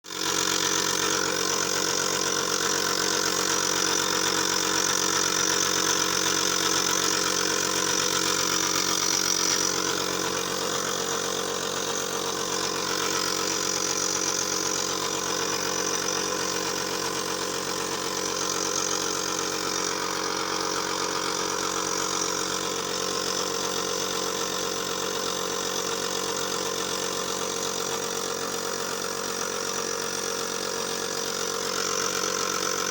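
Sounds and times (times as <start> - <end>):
inhaler motor hum: 0.1 - 32.9.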